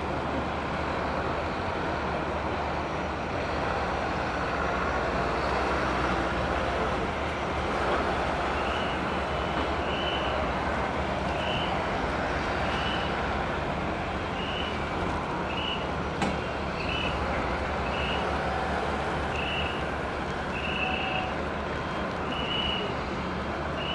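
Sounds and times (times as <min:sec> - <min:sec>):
ground vehicles mechanical noise: 0:00.0 - 0:23.9.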